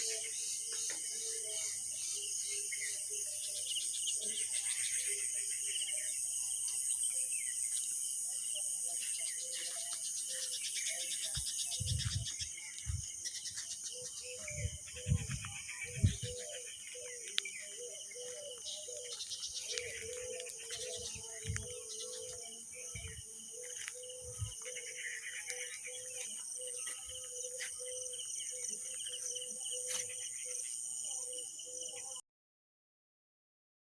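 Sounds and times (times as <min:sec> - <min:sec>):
birds calling: 0:00.0 - 0:32.1
insects chirring: 0:00.0 - 0:32.2.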